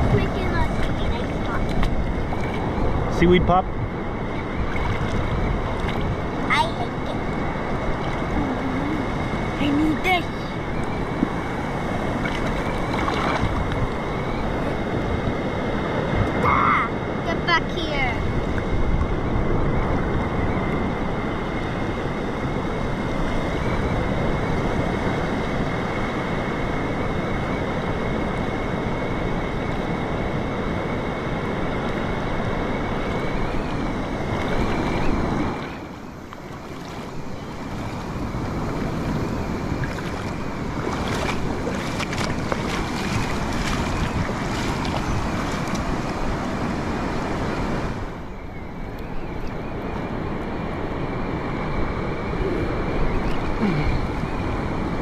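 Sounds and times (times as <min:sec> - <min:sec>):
ocean surf: 0:00.0 - 0:55.0
wind buffeting microphone: 0:00.0 - 0:55.0.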